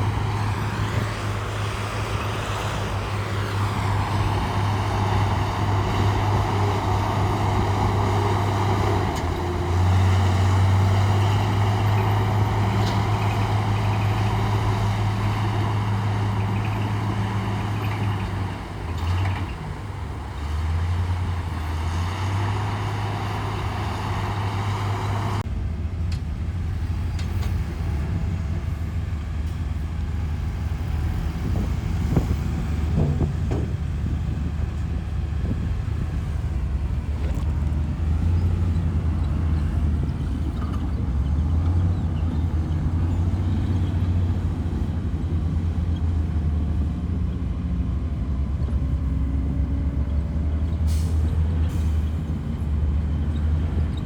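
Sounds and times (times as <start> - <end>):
diesel machinery engine running: 0.0 - 54.0.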